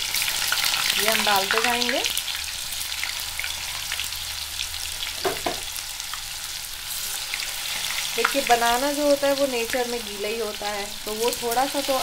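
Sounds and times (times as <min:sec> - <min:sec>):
banana slices sizzling in oil: 0:00.0 - 0:12.0.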